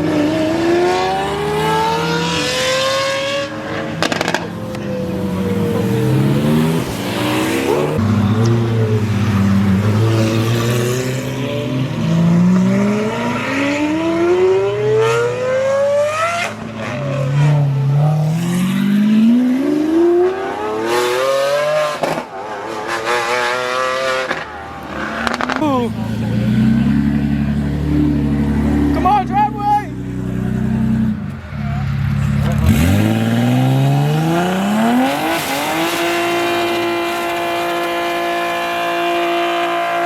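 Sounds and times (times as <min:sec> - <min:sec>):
car engines revving hard: 0:00.0 - 0:40.0.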